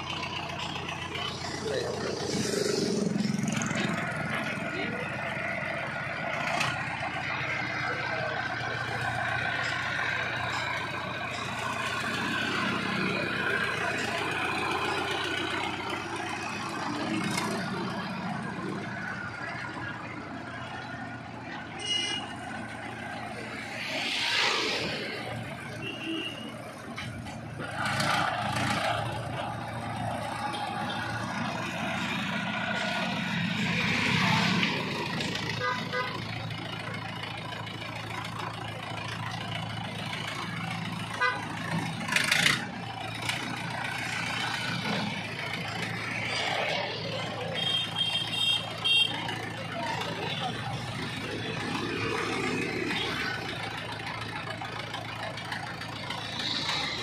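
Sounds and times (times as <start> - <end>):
road traffic: 0.0 - 57.0
tractor diesel engine running: 0.0 - 57.0.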